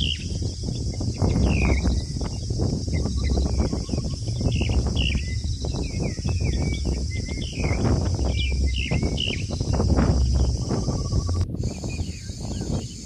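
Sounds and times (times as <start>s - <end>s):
low rumble and hiss: 0.0s - 13.0s
small birds chirping: 0.0s - 13.0s.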